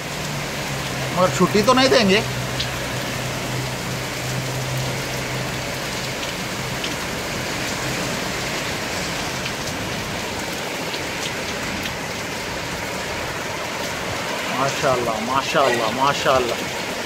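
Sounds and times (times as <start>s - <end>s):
heavy rain on a street: 0.0s - 17.0s.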